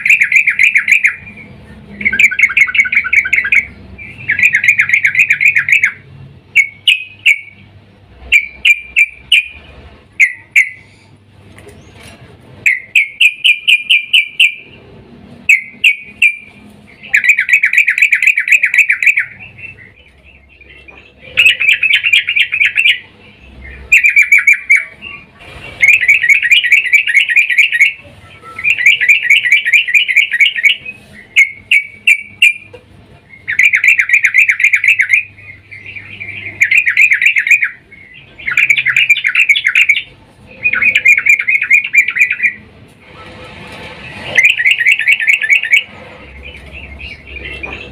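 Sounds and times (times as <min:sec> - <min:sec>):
bird chattering calls: 0:00.0 - 0:14.8, 0:15.5 - 0:42.7, 0:44.2 - 0:47.9.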